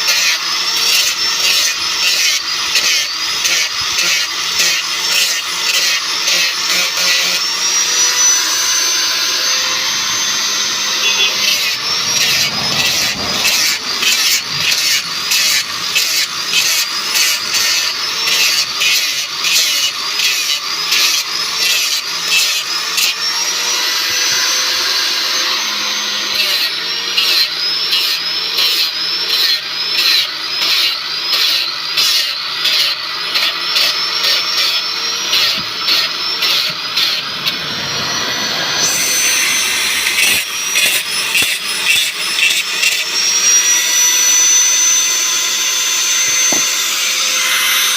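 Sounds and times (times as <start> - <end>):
power tool cutting wood: 0.0 - 47.9.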